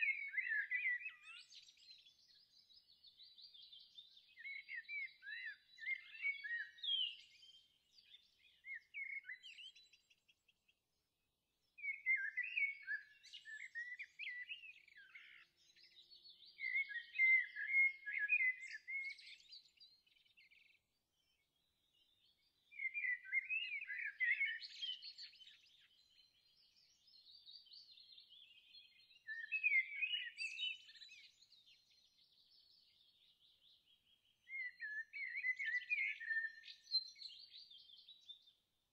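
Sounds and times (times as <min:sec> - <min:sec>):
birds chirping and warbling: 0:00.0 - 0:10.8, 0:11.6 - 0:38.9.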